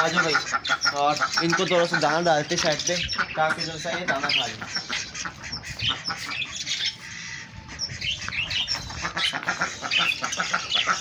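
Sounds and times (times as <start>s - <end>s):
domestic birds squawking and chirping: 0.0s - 11.0s.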